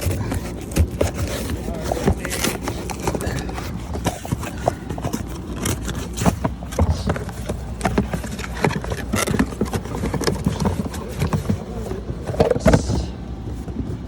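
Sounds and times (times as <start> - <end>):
tools and parts clicking and scraping: 0.0 - 12.9.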